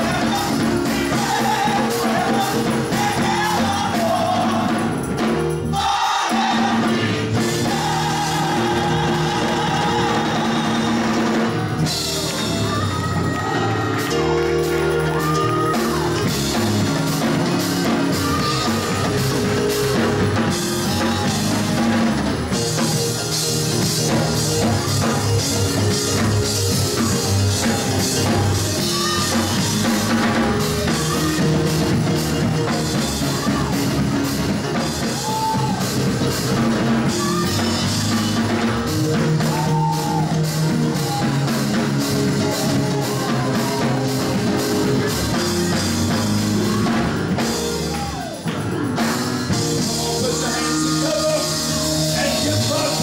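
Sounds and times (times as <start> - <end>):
band with drums keyboard and guitar: 0.0 - 53.0
choir singing gospel music: 0.0 - 53.0.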